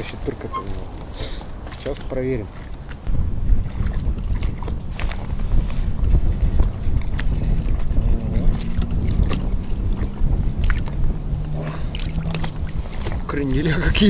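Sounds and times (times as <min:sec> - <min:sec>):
wind buffeting microphone: 0:00.0 - 0:14.0
waves lapping against boat hull: 0:00.3 - 0:14.0.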